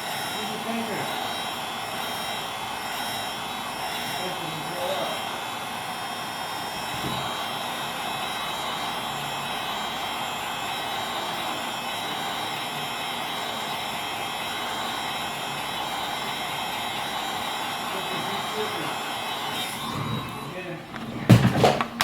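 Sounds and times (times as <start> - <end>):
heat gun fan blowing: 0.0 - 22.0.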